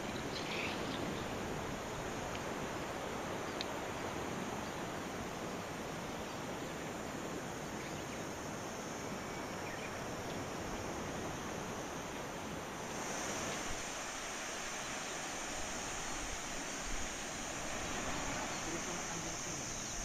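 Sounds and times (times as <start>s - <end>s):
sea surf: 0.0s - 20.0s
wind: 0.0s - 20.0s.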